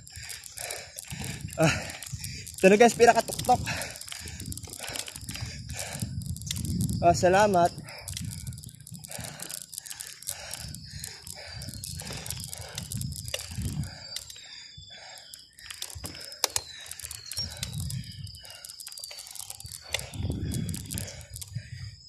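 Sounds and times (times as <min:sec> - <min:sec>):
wind buffeting microphone: 0:00.0 - 0:15.2, 0:15.9 - 0:18.7, 0:19.3 - 0:22.0
sharp clicks: 0:00.0 - 0:21.9
thin steady high tone: 0:00.0 - 0:22.0.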